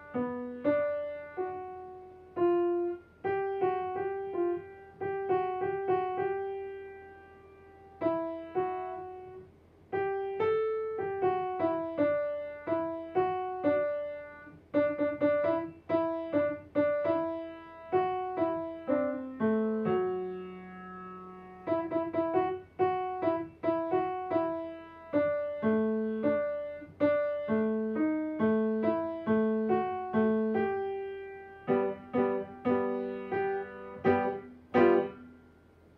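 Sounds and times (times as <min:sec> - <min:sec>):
slow piano melody: 0:00.0 - 0:35.9.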